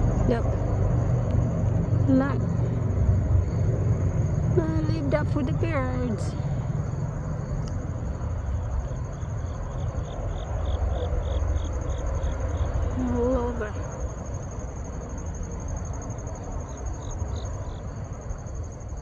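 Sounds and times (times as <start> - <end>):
crickets trilling: 0.0 - 19.0
insect chirping: 0.0 - 19.0
low rumble: 0.0 - 19.0.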